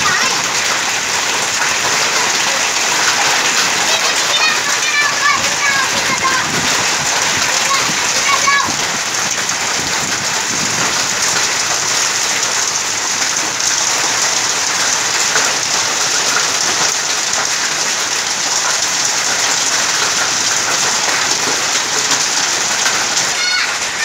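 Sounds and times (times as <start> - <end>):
heavy rain and hail on grass: 0.0 - 24.0.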